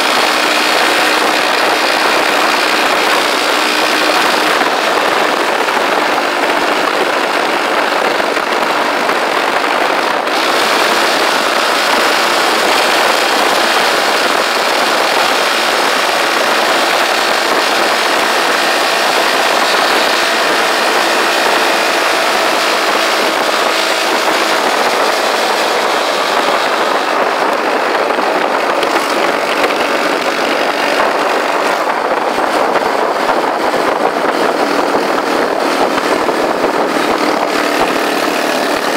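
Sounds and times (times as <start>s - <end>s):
motorcycle engine cruising: 0.0s - 38.9s
wind rush and road noise: 0.0s - 38.9s.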